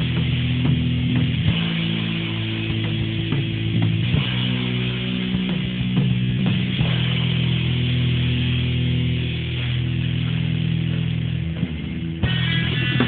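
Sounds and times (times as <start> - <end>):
guitar playing: 0.0 - 13.0.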